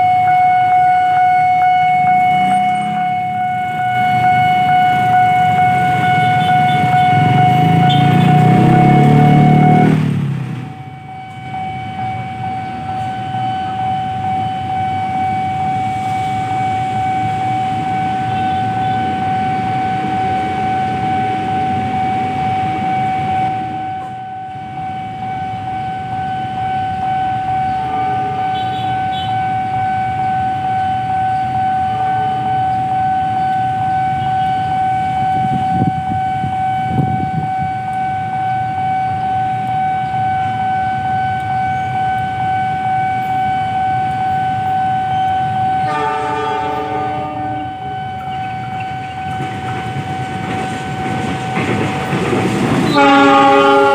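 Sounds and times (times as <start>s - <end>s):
level crossing alarm tone: 0.0s - 53.9s
low rumble of traffic: 0.0s - 53.9s.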